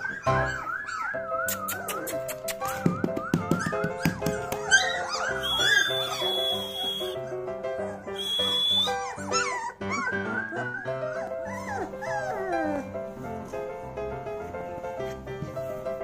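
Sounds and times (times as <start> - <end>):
puppy whining: 0.0 - 13.2
background music: 0.0 - 16.0.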